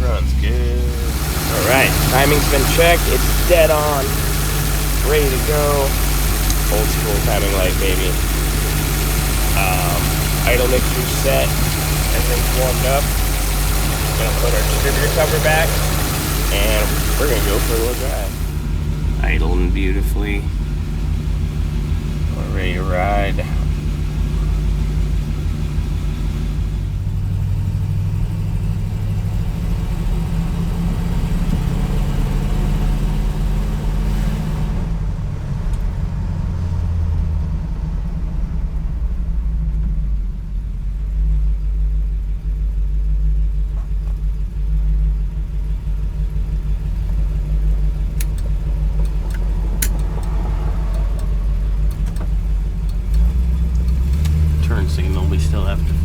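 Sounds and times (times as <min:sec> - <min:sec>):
car engine revving while driving: 0:00.0 - 0:40.4, 0:43.8 - 0:56.0.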